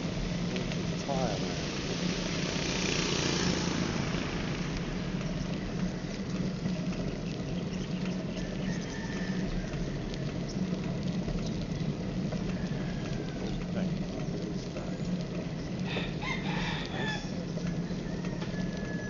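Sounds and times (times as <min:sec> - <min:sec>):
faint crackle: 0:00.0 - 0:19.0
road noise: 0:00.0 - 0:19.0.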